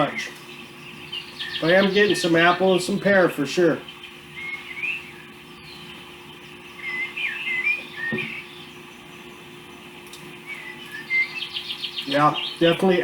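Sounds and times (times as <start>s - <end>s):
faint steady hum: 0.0s - 13.0s
songbird chirping: 0.0s - 13.0s.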